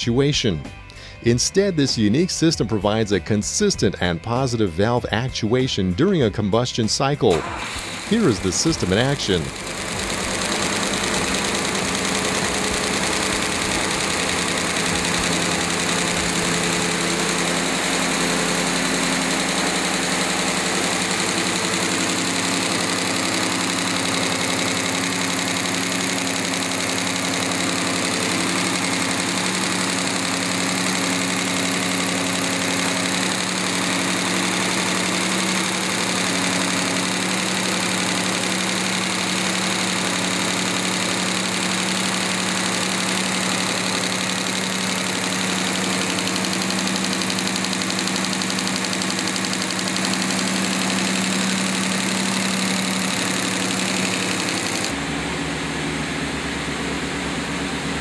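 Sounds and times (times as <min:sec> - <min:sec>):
engine running steadily: 0:07.3 - 0:58.0.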